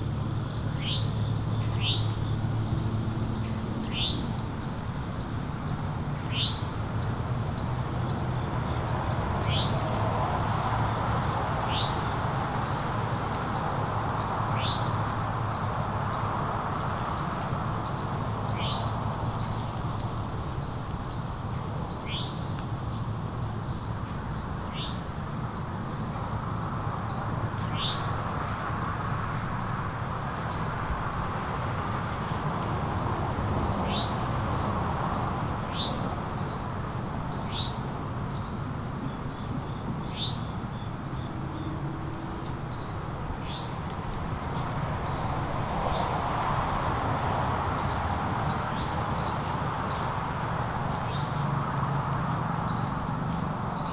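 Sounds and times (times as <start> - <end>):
crickets chirping: 0.0 - 53.9.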